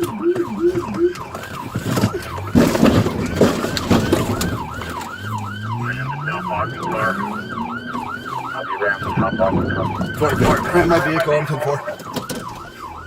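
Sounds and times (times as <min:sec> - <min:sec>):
police siren yelping: 0:00.0 - 0:13.0.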